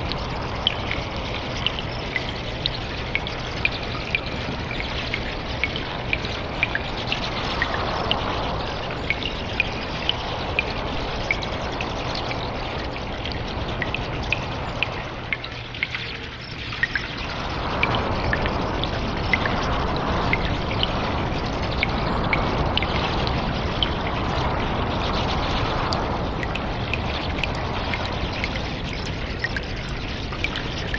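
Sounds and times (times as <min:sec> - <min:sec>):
running water: 0:00.0 - 0:30.9
water dripping: 0:00.0 - 0:30.9.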